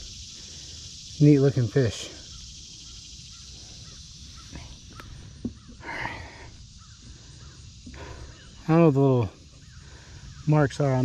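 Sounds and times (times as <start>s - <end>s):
high insect buzz: 0.0s - 11.0s.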